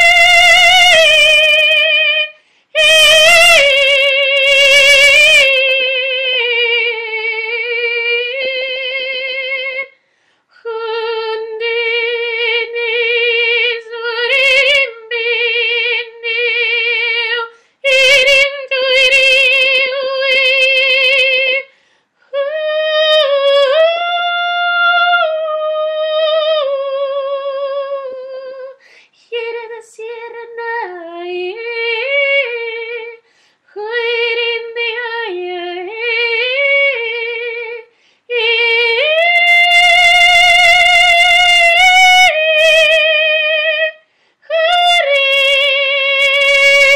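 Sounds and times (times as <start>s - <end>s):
woman singing with vibrato: 0.0s - 46.9s.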